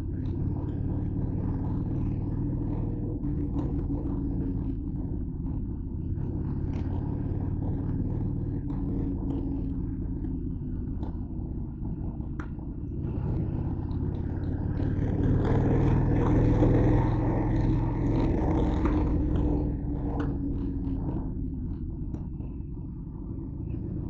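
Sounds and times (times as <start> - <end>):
motorcycle engine rumble: 0.0 - 24.0.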